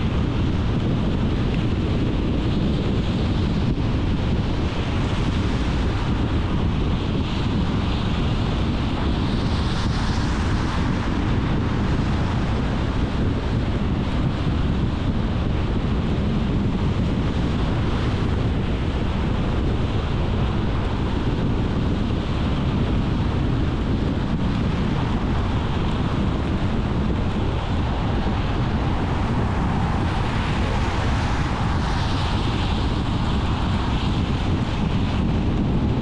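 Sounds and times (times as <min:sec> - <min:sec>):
car road rumble and tyre hiss: 0:00.0 - 0:36.0.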